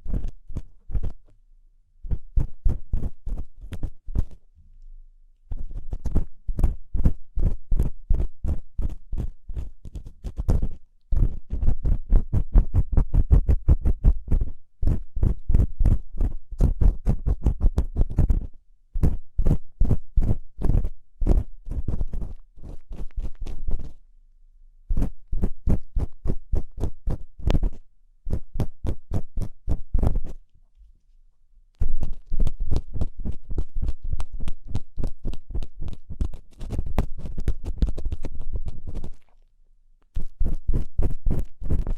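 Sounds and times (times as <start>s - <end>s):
scratchy ear cleaning scraping: 0.0s - 1.3s, 5.5s - 24.0s, 24.9s - 30.5s, 31.8s - 39.4s, 40.2s - 41.9s.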